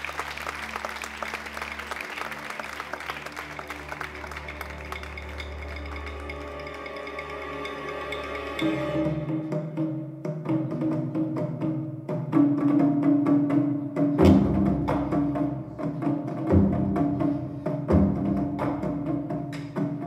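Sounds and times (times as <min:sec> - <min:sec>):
clicking percussive beat: 0:03.9 - 0:20.0.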